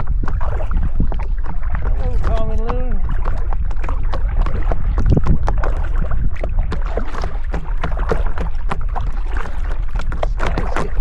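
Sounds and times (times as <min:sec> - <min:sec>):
water lapping against boat: 0:00.0 - 0:11.0
wind rumble on microphone: 0:00.0 - 0:11.0.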